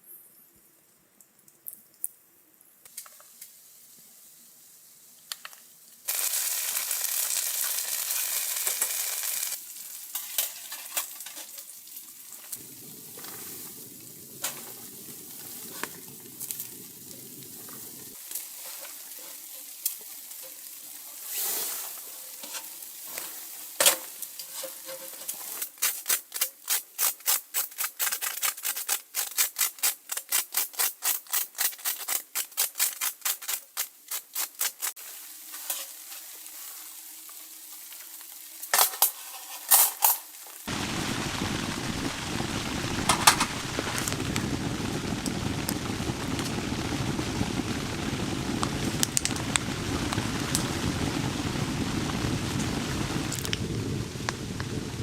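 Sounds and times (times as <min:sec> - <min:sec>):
food sizzling in a pan: 0:02.9 - 0:28.1, 0:33.2 - 0:54.9.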